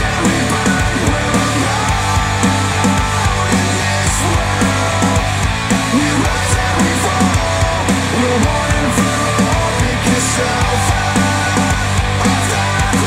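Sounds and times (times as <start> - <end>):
rock song with guitar: 0.0 - 13.0.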